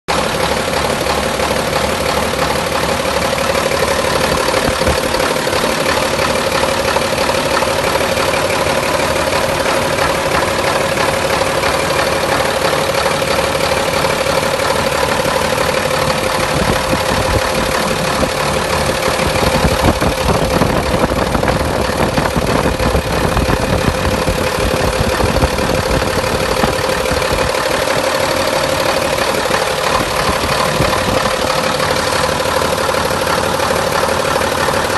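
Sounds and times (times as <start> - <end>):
truck diesel engine idling: 0.1 - 34.9.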